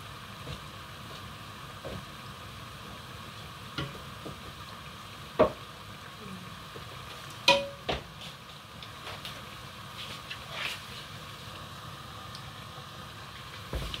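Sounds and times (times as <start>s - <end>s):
hot oil sizzling in a pot: 0.0s - 14.0s.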